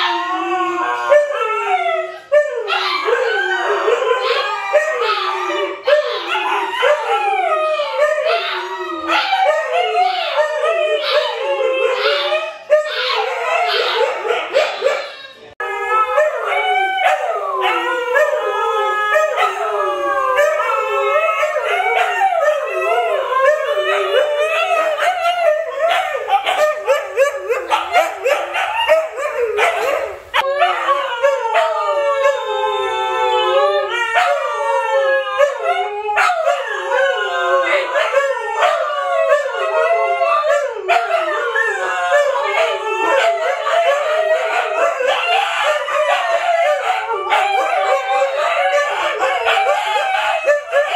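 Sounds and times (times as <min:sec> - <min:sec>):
dogs howling together: 0:00.0 - 0:50.9.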